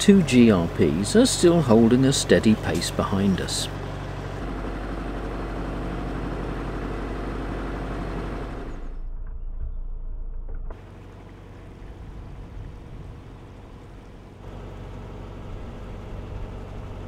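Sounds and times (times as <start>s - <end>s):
boat diesel engine droning: 0.0s - 17.0s.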